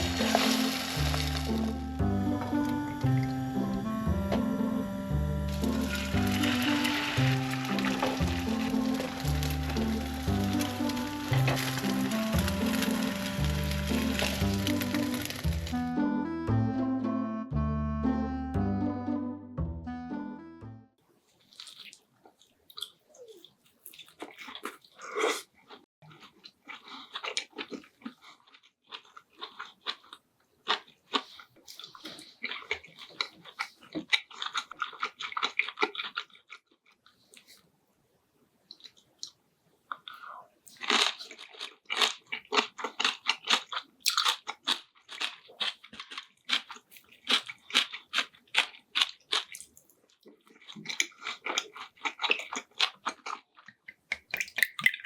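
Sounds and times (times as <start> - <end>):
person chewing food: 0.0 - 4.7, 5.3 - 15.8, 21.3 - 37.7, 38.7 - 55.0.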